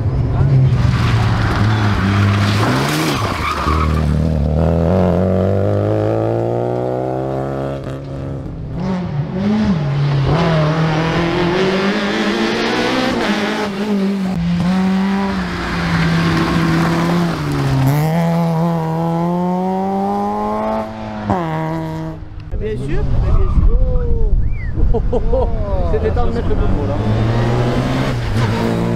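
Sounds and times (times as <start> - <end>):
rally car engines revving high: 0.0 - 23.2, 25.0 - 28.9.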